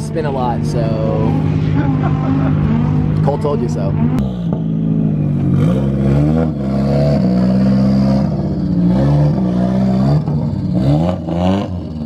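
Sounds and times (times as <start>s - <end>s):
car engine revving hard: 0.6s - 12.0s.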